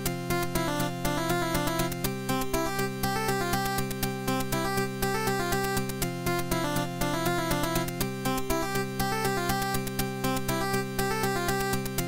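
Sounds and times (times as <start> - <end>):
upbeat chiptune music: 0.3 - 12.0.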